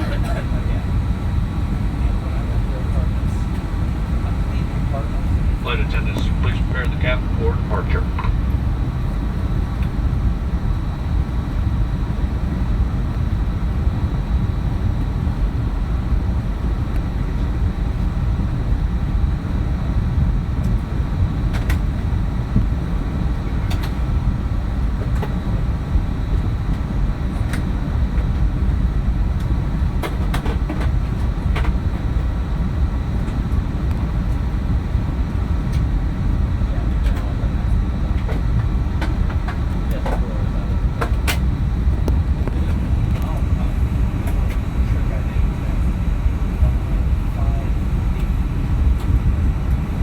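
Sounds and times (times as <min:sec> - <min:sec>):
jet engine and airflow rumble: 0:00.0 - 0:50.0.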